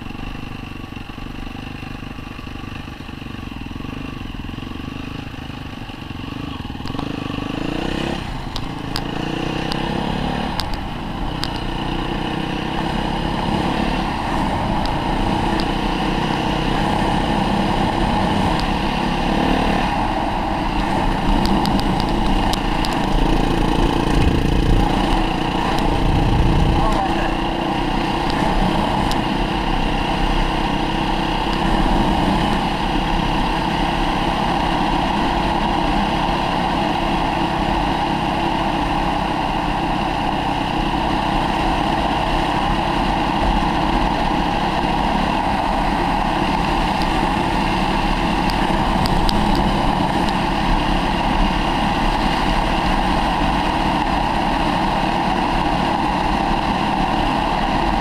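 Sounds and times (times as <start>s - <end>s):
constant rushing noise: 0.0s - 58.0s
motorcycle engine running: 0.0s - 58.0s.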